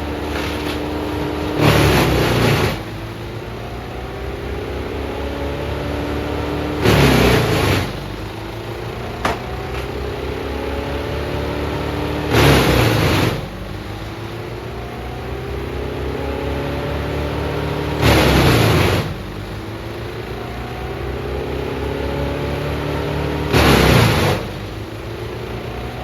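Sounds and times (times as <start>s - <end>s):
drum chipper engine running: 0.0s - 26.0s
wood going through chipper: 0.0s - 26.0s.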